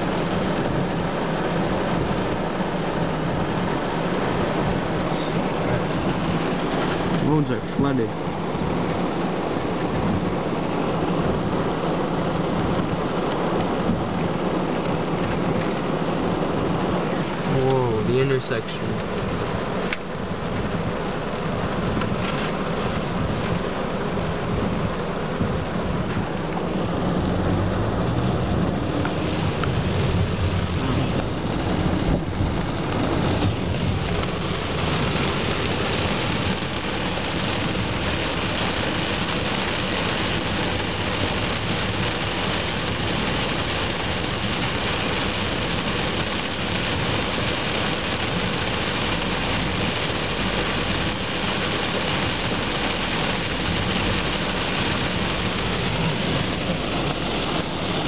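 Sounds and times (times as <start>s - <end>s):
car rumbling on wet road: 0.0s - 58.0s
heavy rain on car roof: 0.0s - 58.0s.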